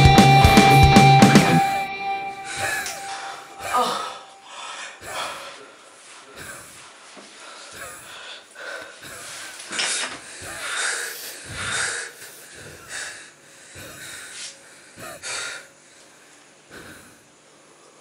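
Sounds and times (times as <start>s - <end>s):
man breathing hard: 1.6s - 18.0s.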